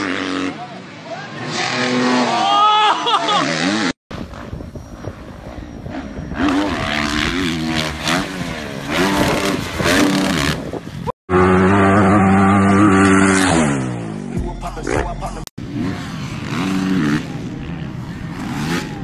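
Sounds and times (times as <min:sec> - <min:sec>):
dirt bike at high revs: 0:00.0 - 0:00.6, 0:01.4 - 0:02.6, 0:03.2 - 0:04.0, 0:05.6 - 0:15.0, 0:15.6 - 0:19.0
dirt bike engines revving: 0:00.0 - 0:19.0.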